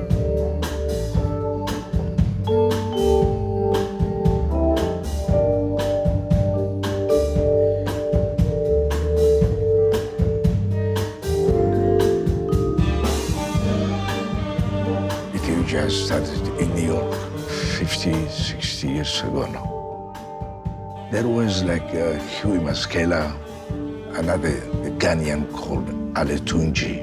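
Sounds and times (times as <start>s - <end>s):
steady drum beat: 0.0s - 26.1s
instrumental jazz band: 0.0s - 26.5s
bass line: 0.0s - 27.0s.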